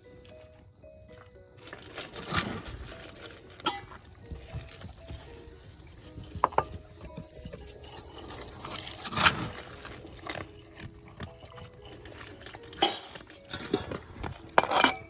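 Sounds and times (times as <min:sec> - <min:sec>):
dog bowls and kibble clinking: 0:00.0 - 0:15.0.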